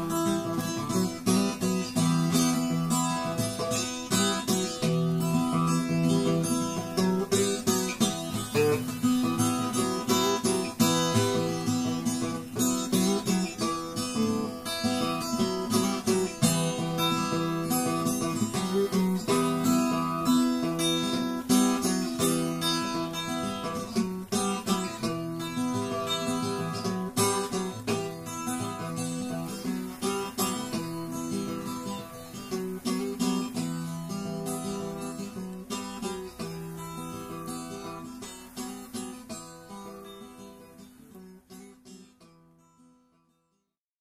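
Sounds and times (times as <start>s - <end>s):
acoustic guitar music: 0.0s - 43.8s.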